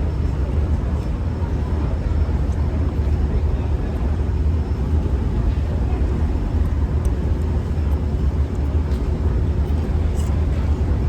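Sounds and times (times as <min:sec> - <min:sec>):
vehicle rumble in motion: 0:00.0 - 0:11.0.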